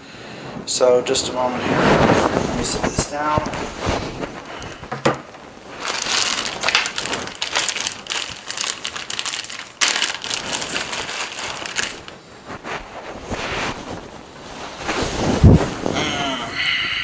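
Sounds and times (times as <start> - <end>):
rustling scraping and clicking: 1.5 - 15.9.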